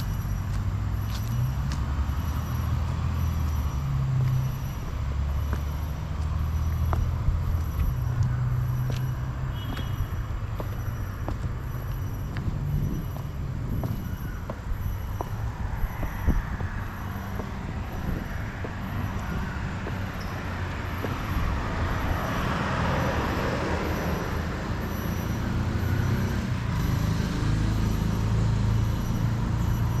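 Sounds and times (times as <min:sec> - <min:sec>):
road traffic rumble: 0:00.0 - 0:30.0
vehicle passing: 0:00.0 - 0:30.0.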